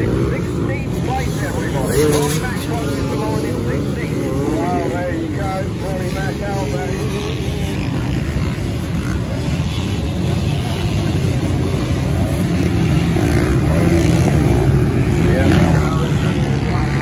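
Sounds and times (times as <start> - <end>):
motocross bike engines rumbling: 0.0 - 17.0.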